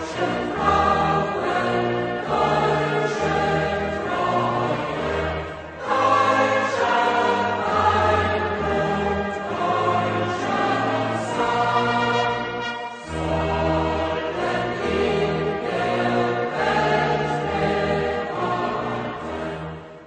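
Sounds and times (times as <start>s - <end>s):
choir singing with orchestra: 0.0s - 20.0s.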